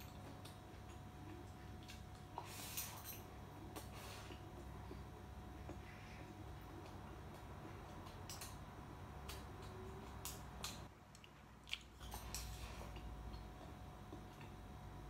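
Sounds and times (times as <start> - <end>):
faint chewing: 0.1 - 14.9.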